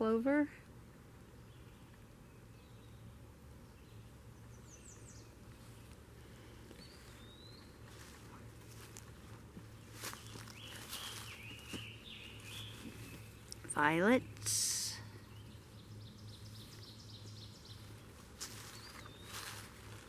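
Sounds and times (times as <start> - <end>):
low background hum: 0.0 - 20.0
birds chirping: 0.9 - 20.0.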